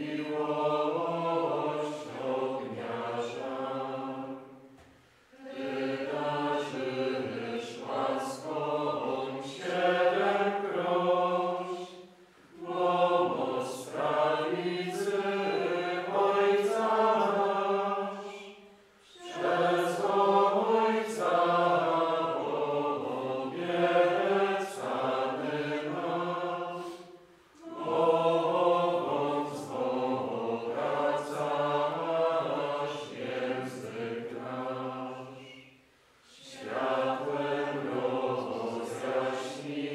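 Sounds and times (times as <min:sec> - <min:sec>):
men singing a hymn: 0:00.0 - 0:04.4, 0:05.5 - 0:18.6, 0:19.2 - 0:35.8, 0:36.4 - 0:39.9.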